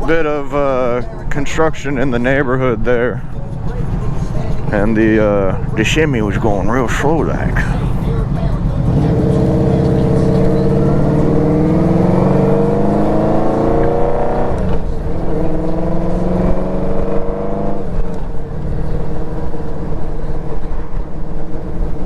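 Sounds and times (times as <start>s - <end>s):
motorcycle engine accelerating: 3.0s - 22.0s.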